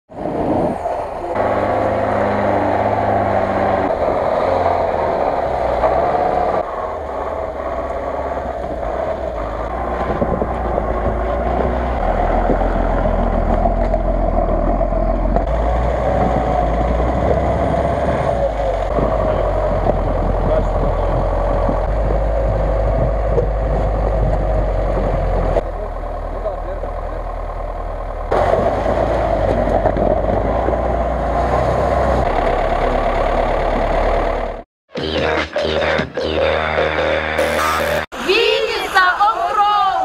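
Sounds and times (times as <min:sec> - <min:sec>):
off-road vehicle engines under load: 0:00.1 - 0:34.7.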